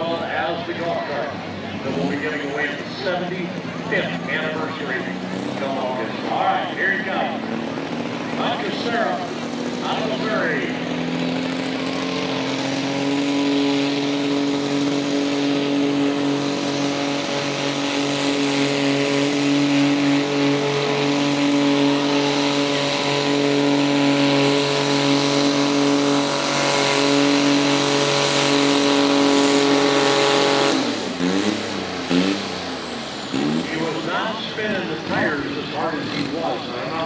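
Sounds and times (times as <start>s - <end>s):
tractor engine running flat out: 0.0s - 37.0s.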